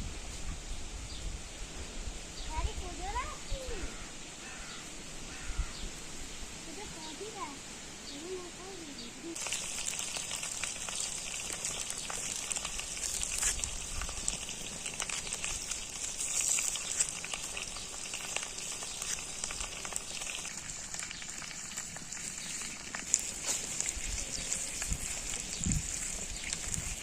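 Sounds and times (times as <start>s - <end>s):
food sizzling in a pan: 2.2s - 27.0s.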